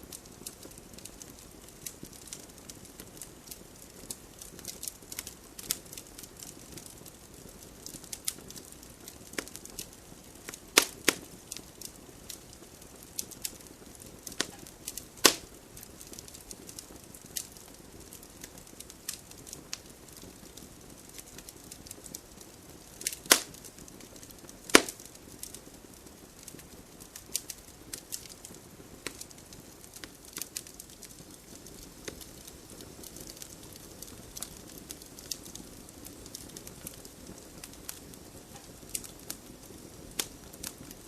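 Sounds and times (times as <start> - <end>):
campfire wood crackling: 0.0 - 41.0
faint hiss: 0.0 - 41.0.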